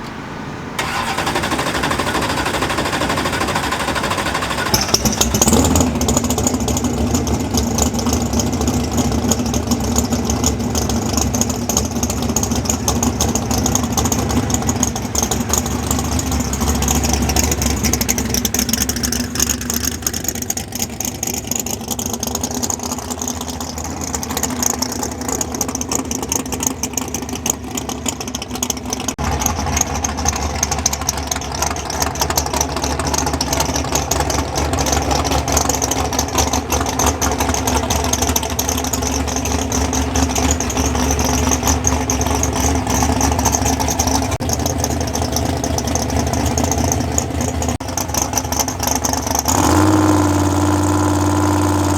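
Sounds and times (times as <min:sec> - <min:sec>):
race car engine idling: 0:00.8 - 0:51.9.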